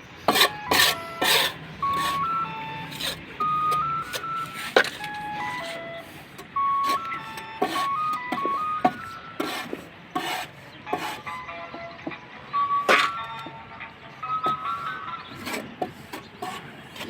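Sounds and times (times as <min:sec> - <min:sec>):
electronic beeping melody: 0:00.3 - 0:09.4, 0:10.8 - 0:15.5.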